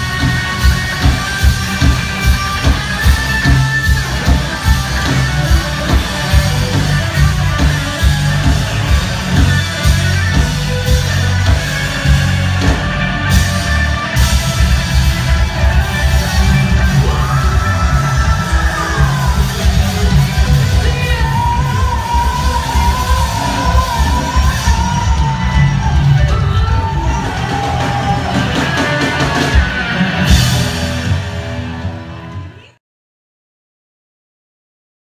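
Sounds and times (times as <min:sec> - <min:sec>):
loud rock music: 0:00.0 - 0:32.8.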